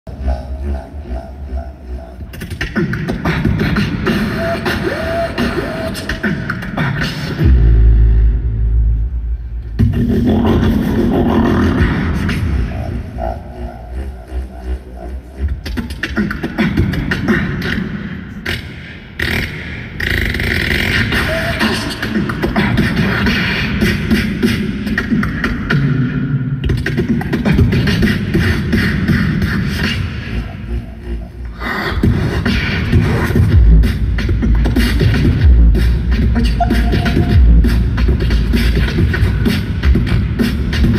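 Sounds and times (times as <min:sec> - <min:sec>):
deep vocal bass: 0:00.0 - 0:40.9
beatboxing through pa: 0:00.1 - 0:40.9.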